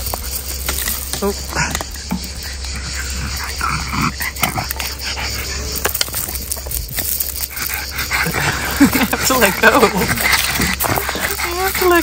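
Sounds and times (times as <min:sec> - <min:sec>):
small dog growling: 0:01.0 - 0:12.0.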